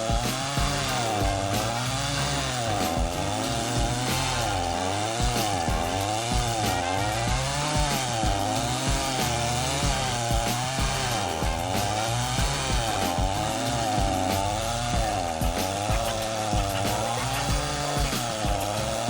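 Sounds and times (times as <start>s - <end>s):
chainsaw engine grinding stump: 0.0s - 19.0s.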